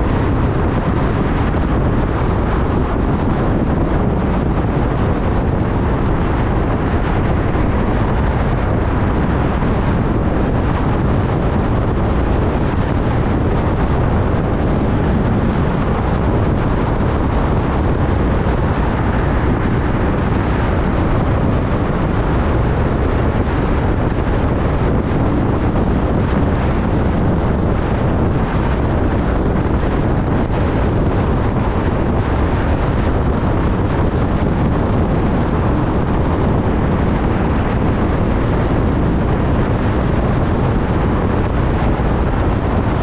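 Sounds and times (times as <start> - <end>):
car road and wind rumble: 0.0 - 43.0.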